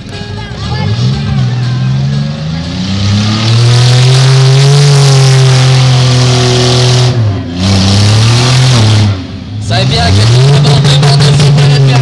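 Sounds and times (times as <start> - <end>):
car engine revving hard: 0.6 - 12.0.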